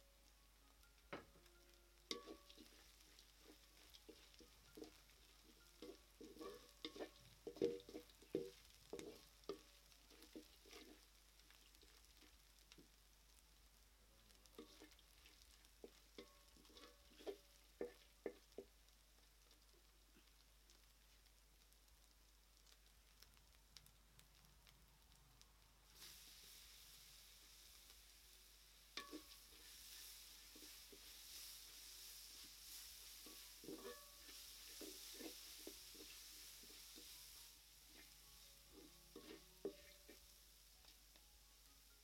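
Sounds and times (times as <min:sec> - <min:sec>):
spoon stirring in pan: 0:01.0 - 0:21.3, 0:26.0 - 0:41.2.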